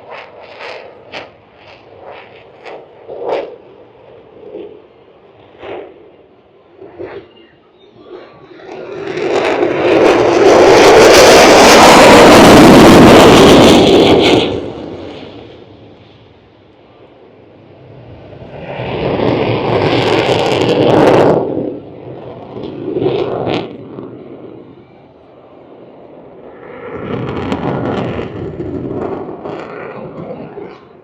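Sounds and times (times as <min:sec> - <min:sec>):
aircraft passing with rushing roar: 0:00.0 - 0:31.0.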